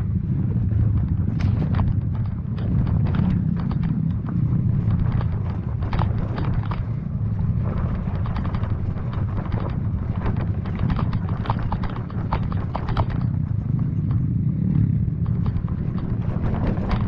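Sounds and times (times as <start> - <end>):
dirt bike engine running: 0.0 - 17.0
clicks and rattles: 0.5 - 17.0.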